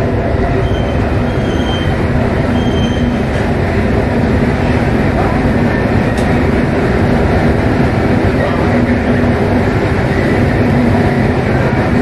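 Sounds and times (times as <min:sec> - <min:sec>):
train rumbling through tunnel: 0:00.0 - 0:12.0.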